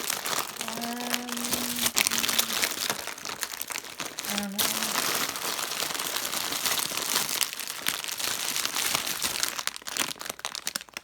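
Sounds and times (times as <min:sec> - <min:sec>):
squishies crinkling and rustling: 0:00.0 - 0:11.0.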